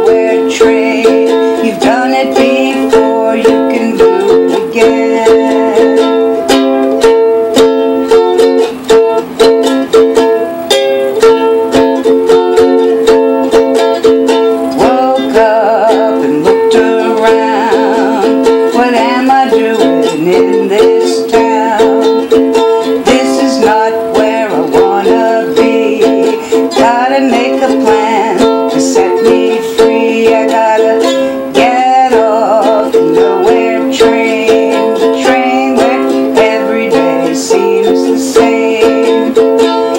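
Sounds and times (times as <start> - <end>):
acoustic chords strummed: 0.0 - 39.9.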